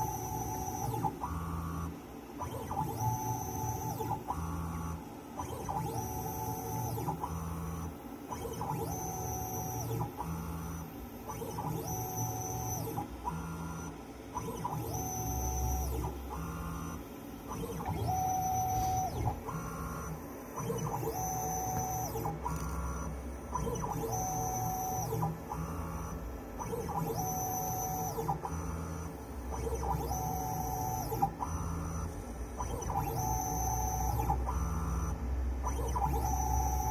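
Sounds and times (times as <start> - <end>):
stepper motors whining: 5.4 - 32.0, 32.6 - 34.4, 35.7 - 36.9.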